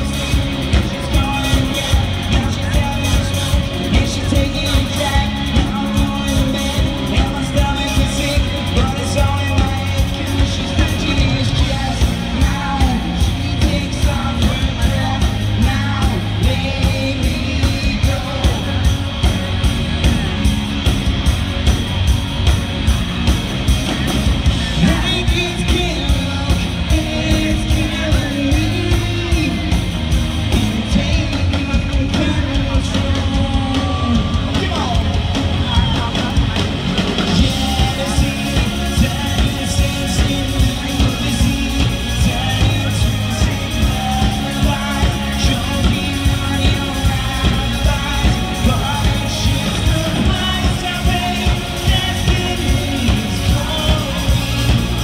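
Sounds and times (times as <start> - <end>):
lead singer singing: 0.0 - 20.9, 24.3 - 55.0
live rock band: 0.0 - 55.0
steady drum beat: 0.0 - 55.0.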